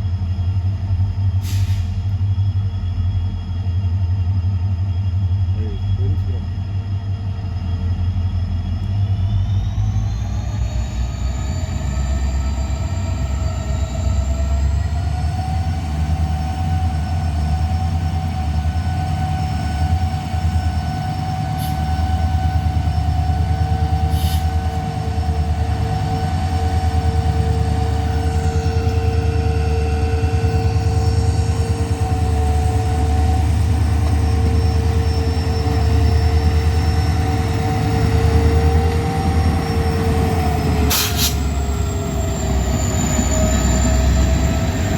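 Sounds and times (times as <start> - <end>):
train engine rumble: 0.0 - 44.9
high-pitched whining tones: 7.5 - 44.9.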